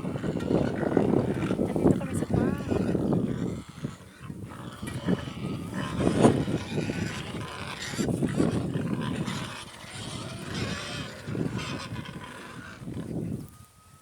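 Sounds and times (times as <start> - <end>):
pigs grunting: 0.0 - 13.4.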